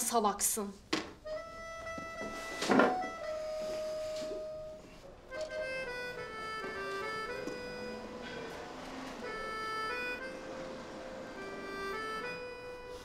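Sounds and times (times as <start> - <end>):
reedy melody music: 1.2 - 13.0.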